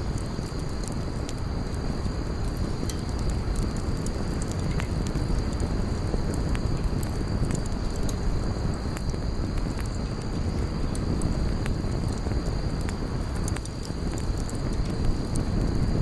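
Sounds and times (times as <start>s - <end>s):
campfire flames rushing: 0.0s - 16.0s
wood crackling and popping: 0.0s - 16.0s.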